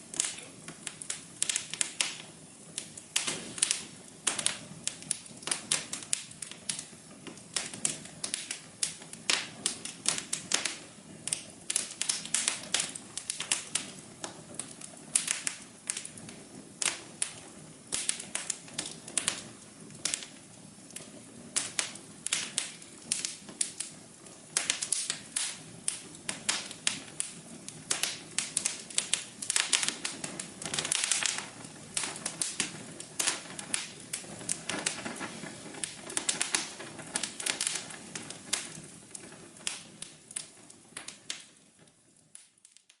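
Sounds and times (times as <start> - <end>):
low steady hiss: 0.0 - 43.0
wood fire crackling: 0.0 - 43.0.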